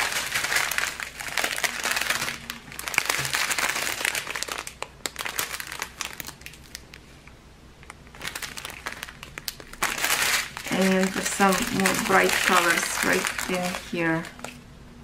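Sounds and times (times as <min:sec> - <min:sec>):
plastic bags crinkling: 0:00.0 - 0:07.0, 0:07.9 - 0:14.6.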